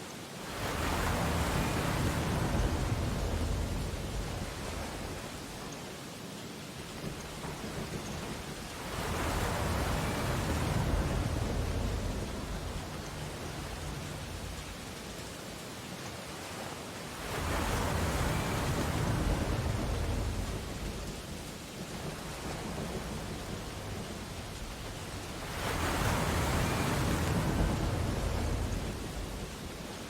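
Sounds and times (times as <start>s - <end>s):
ocean waves breaking: 0.0s - 30.0s
surf hissing: 0.0s - 30.0s.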